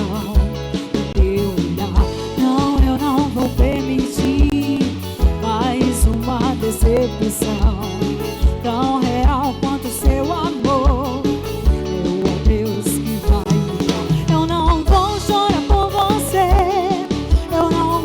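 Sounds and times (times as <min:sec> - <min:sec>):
bass: 0:00.0 - 0:18.0.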